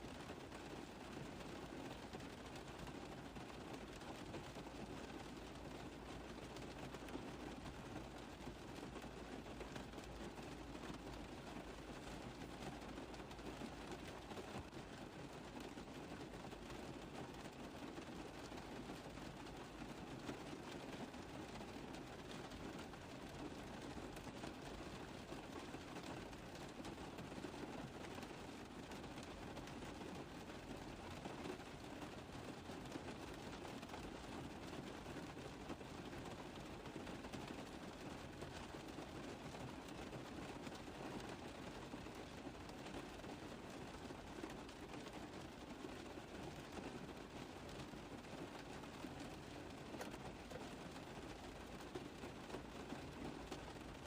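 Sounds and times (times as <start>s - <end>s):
rain tapping on a car roof: 0.0s - 54.0s.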